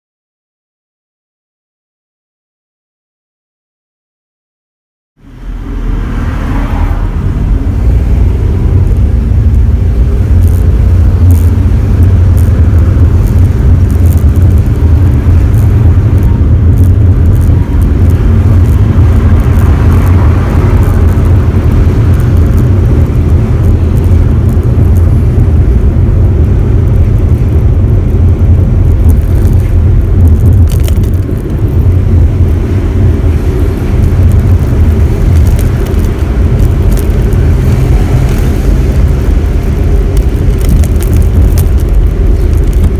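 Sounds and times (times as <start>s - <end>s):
car engine low drone: 5.2s - 42.9s.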